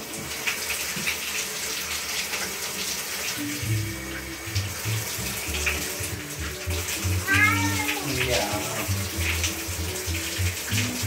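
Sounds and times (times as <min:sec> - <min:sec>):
water running into a bathtub: 0:00.0 - 0:11.0.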